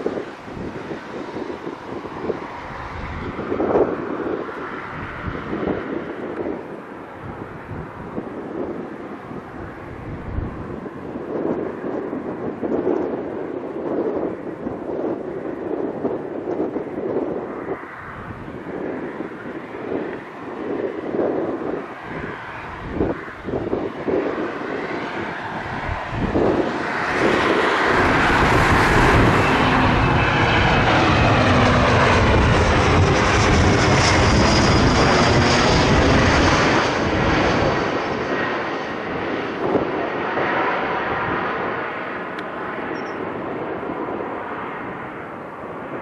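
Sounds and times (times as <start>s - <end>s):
airliner engines passing: 0.0s - 46.0s.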